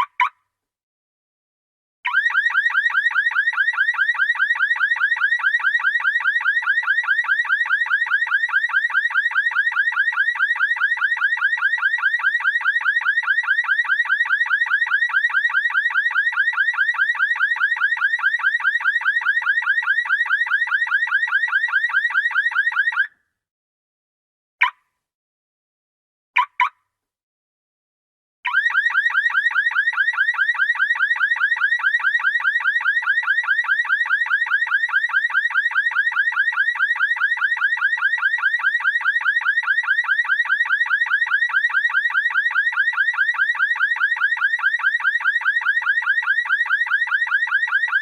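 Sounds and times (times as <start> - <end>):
car alarm warbling siren: 2.1 - 23.2, 28.5 - 48.0.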